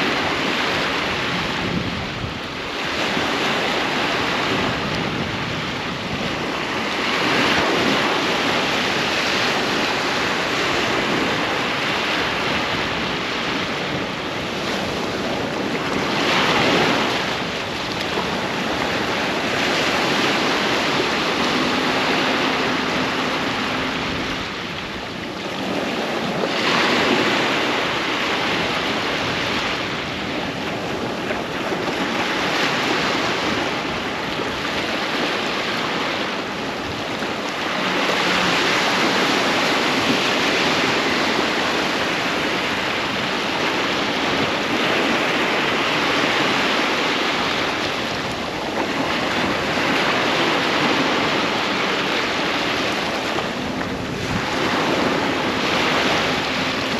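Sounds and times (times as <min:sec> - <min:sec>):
ocean waves washing on beach: 0:00.0 - 0:56.9.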